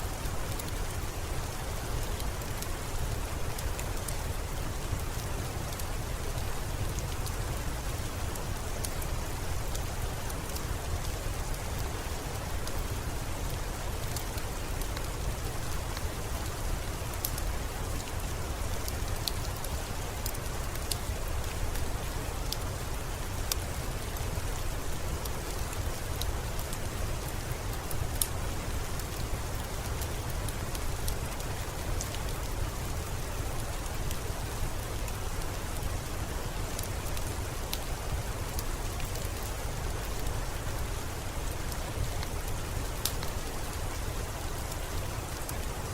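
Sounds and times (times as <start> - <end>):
steady rain: 0.0 - 45.9
wood fire crackling: 0.1 - 45.9.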